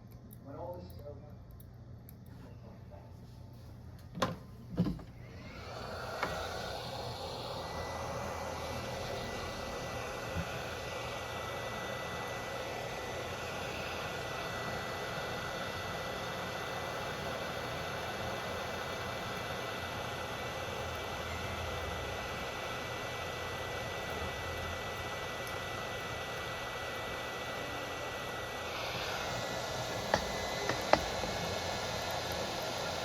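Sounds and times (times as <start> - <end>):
machine hiss and hum: 4.8 - 33.0.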